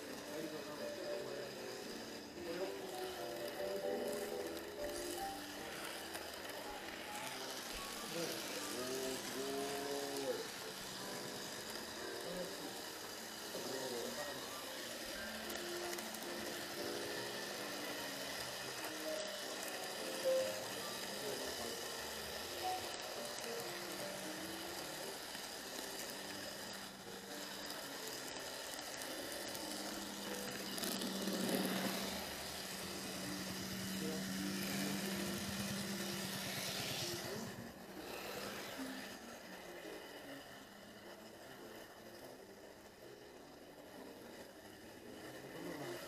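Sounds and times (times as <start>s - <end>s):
model train humming on track: 0.0s - 46.0s.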